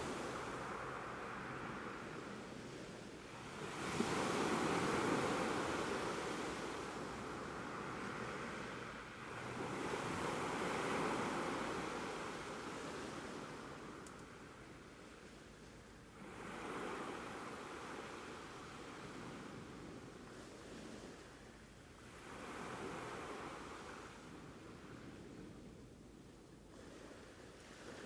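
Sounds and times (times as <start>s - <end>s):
ocean waves breaking on shore: 0.0s - 14.0s, 16.1s - 25.6s, 26.7s - 28.0s.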